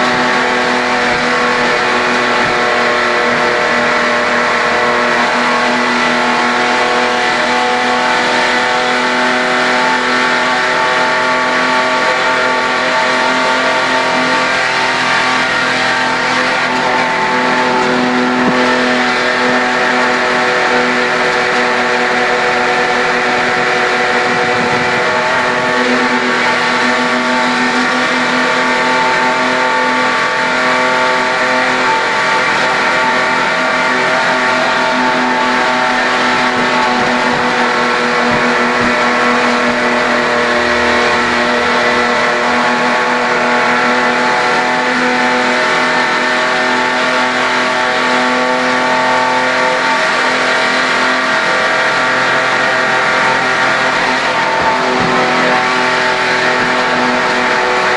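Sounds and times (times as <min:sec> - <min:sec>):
race car engine from inside cabin: 0:00.0 - 0:57.9.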